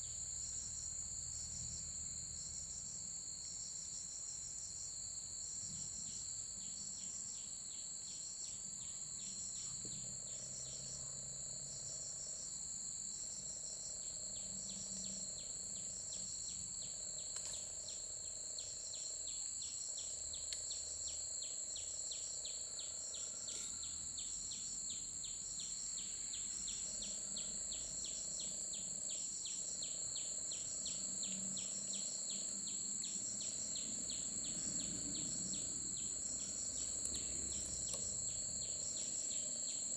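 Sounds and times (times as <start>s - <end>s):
insects chirping in pulses: 0.0s - 39.9s
insects droning: 0.0s - 39.9s.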